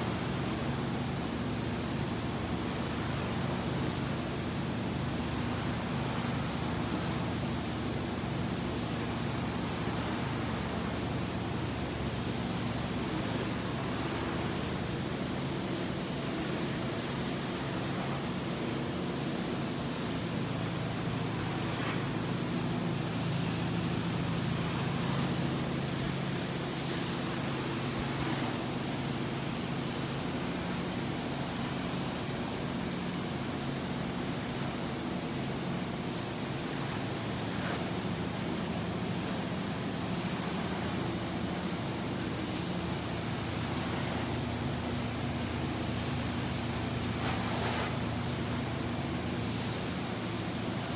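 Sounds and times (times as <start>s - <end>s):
low steady hum: 0.0s - 50.9s
carpet extraction suction hiss: 8.3s - 50.9s.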